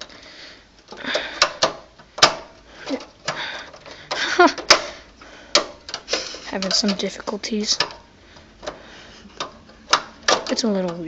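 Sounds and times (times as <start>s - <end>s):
sharp metallic clicks: 0.8s - 11.0s.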